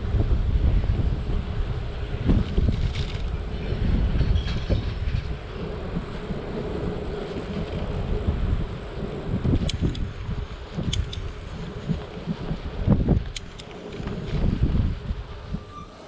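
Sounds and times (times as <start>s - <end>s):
low rumbling road noise: 0.0s - 16.0s
wind buffeting microphone: 0.0s - 16.0s.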